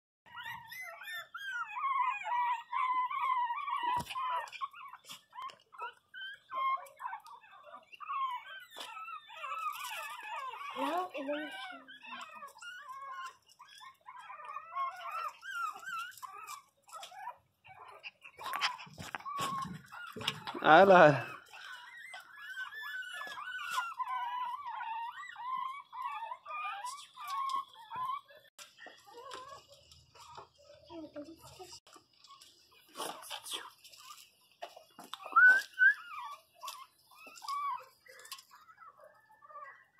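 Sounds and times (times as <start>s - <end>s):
puppies whining and whimpering: 0.3s - 39.9s.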